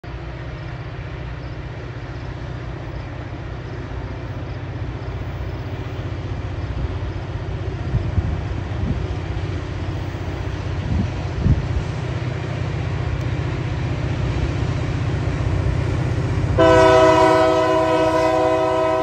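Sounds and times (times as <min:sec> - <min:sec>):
locomotive engine rumble: 0:00.0 - 0:19.0.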